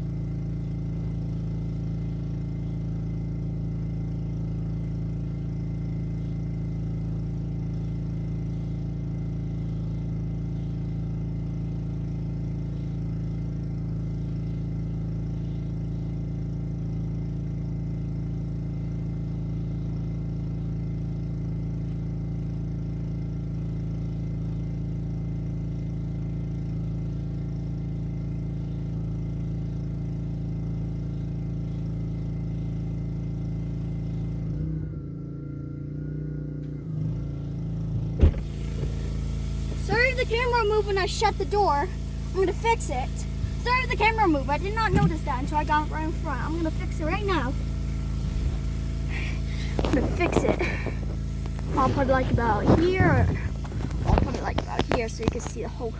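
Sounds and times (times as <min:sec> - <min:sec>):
pressure washer engine running: 0:00.0 - 0:34.6, 0:37.0 - 0:55.9.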